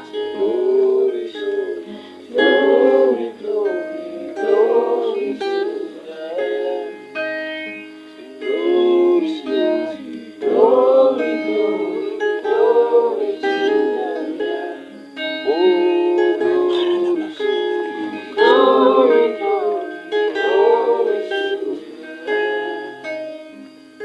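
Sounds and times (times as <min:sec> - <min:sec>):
people singing: 0:00.0 - 0:23.9
plucked strings: 0:00.0 - 0:24.0.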